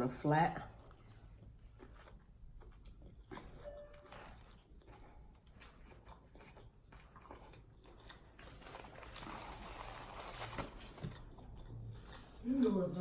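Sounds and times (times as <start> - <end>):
chewing food: 0.6 - 10.0, 10.8 - 13.0.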